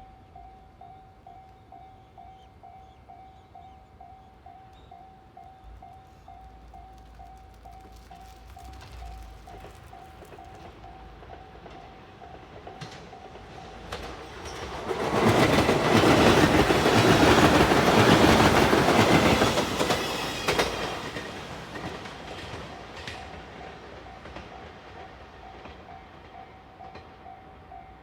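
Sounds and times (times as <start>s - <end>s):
level-crossing warning bell: 0.0s - 20.7s, 21.8s - 28.0s
electric train passing at speed: 0.0s - 28.0s.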